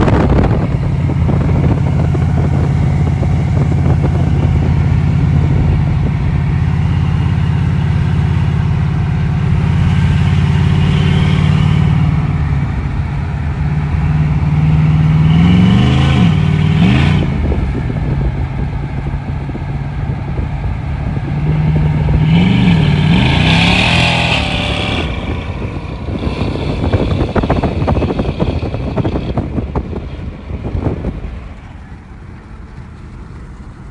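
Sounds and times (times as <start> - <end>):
engine idling and revving: 0.0 - 33.9.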